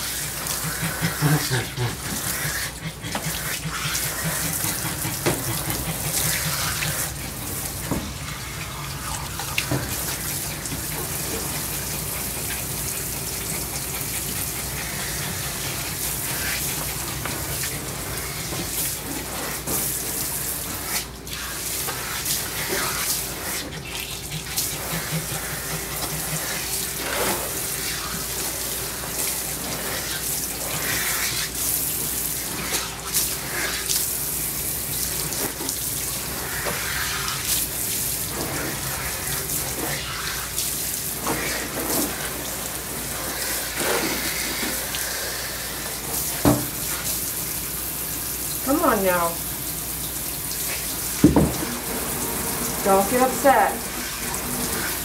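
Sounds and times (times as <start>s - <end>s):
water splashing into tub: 0.0s - 55.0s
water spraying onto wet fur: 0.0s - 55.0s.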